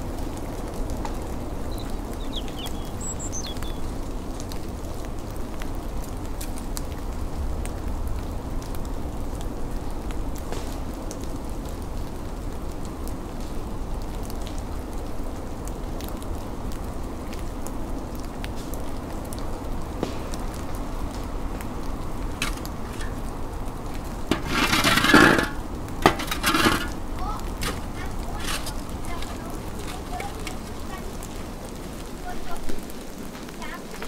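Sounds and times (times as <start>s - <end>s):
low rumble of snowstorm: 0.0s - 34.0s.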